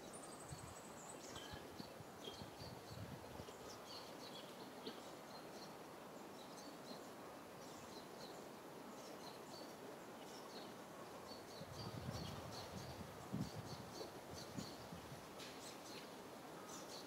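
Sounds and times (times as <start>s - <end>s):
small birds chirping: 0.0s - 17.0s
steady background hiss: 0.0s - 17.0s.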